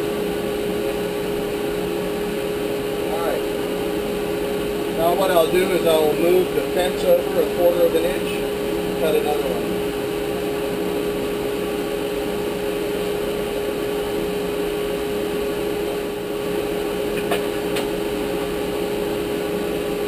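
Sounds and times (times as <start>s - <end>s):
machine motor humming: 0.0s - 20.0s.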